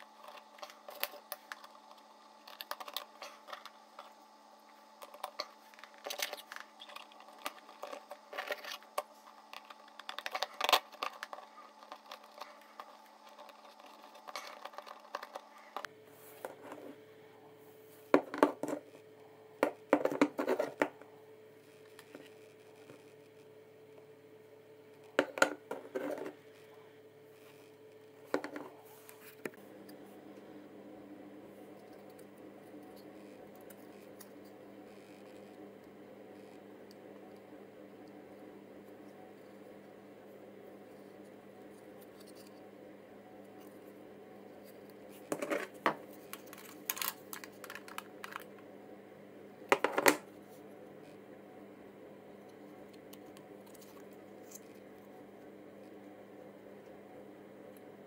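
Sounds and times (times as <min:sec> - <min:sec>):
faint hum: 0:00.0 - 0:58.0.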